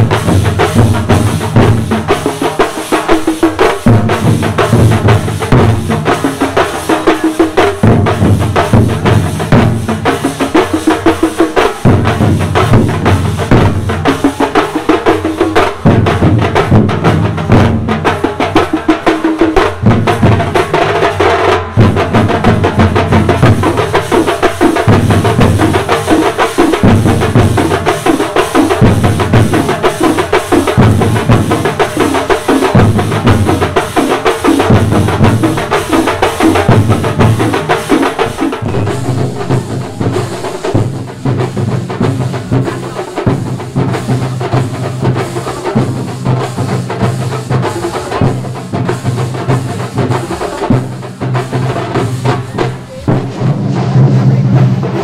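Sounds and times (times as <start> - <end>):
large drums beaten with sticks: 0.0 - 55.0.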